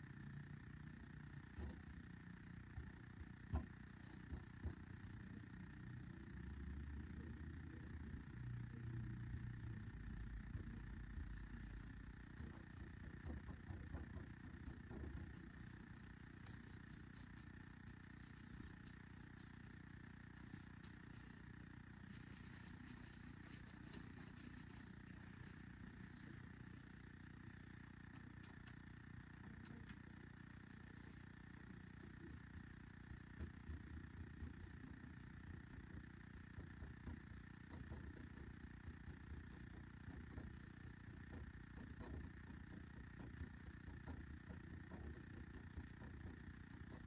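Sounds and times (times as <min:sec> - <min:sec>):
low room hum: 0:00.0 - 0:47.0.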